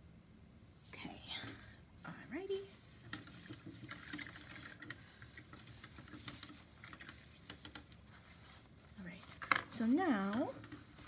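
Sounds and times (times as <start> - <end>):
faint scratching and tapping: 1.2 - 11.0.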